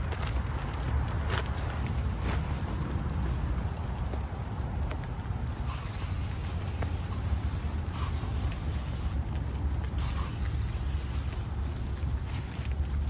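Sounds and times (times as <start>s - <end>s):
rain pattering on trees: 0.0s - 5.7s, 6.7s - 13.0s
distant city traffic rumble: 0.0s - 13.0s.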